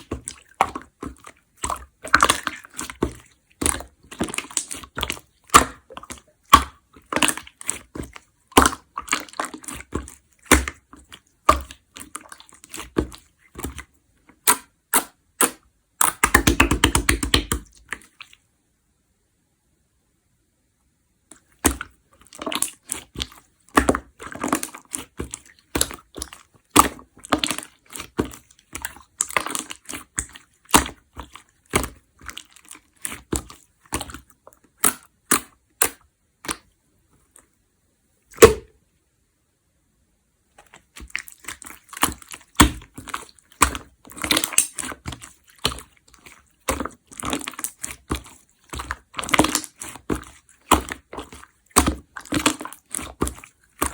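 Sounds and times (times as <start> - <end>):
slime squished in hands: 0.0 - 18.4, 21.3 - 36.6, 40.6 - 53.9.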